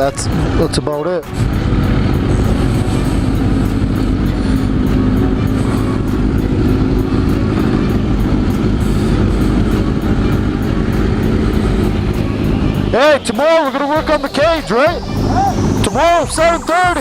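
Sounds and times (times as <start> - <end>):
motorcycle engine cruising: 0.0 - 17.0
wind rush on microphone: 0.0 - 17.0.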